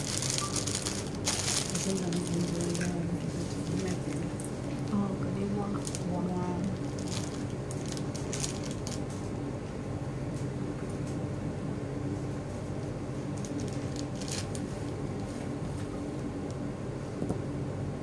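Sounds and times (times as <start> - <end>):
low hum of room machinery: 0.0 - 18.0.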